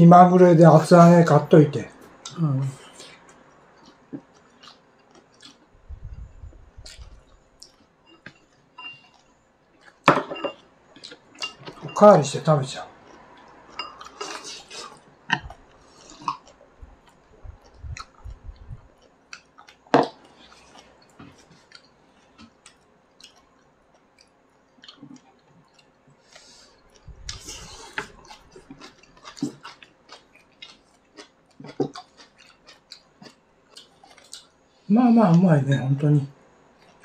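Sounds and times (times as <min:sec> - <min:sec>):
person chewing: 0:02.1 - 0:10.1, 0:10.9 - 0:11.9, 0:12.9 - 0:34.5.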